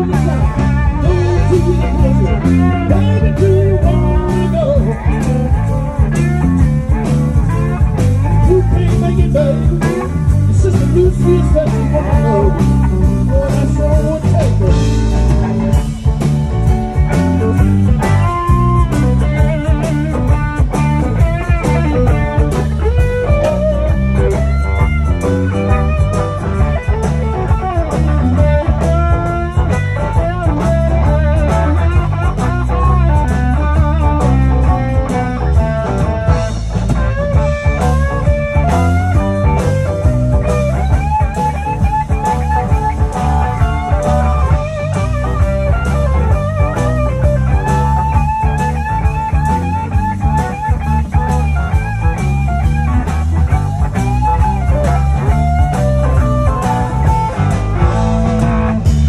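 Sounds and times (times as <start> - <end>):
blues-rock band playing: 0.0 - 59.0
electric guitar lead: 0.0 - 59.0.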